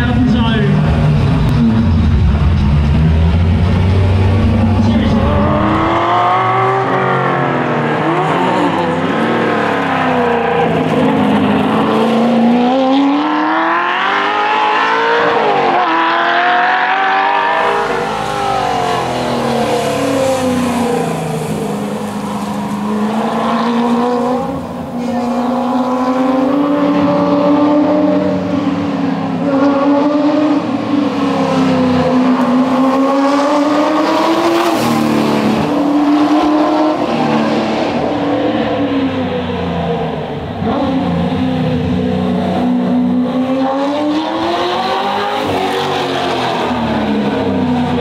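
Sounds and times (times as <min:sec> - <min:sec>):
racing car engine accelerating: 0:00.0 - 0:48.0.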